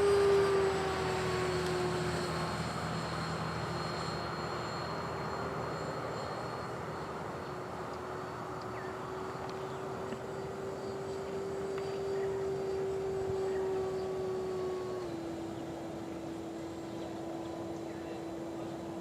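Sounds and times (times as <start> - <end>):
electric jet fan whine: 0.0 - 19.0.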